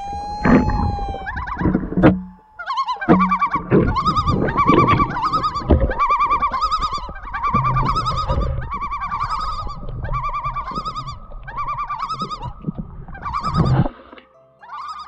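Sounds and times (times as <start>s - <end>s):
loon tremolo call: 0.0s - 12.6s.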